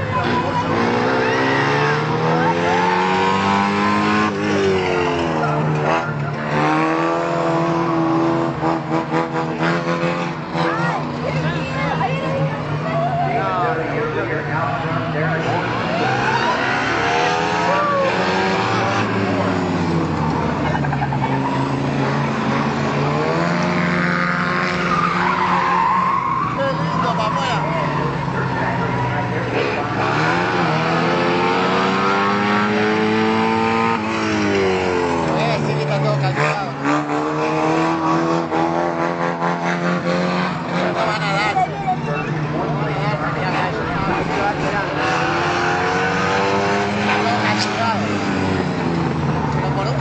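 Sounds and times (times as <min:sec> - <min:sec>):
race car engines running hard: 0:00.0 - 0:50.0.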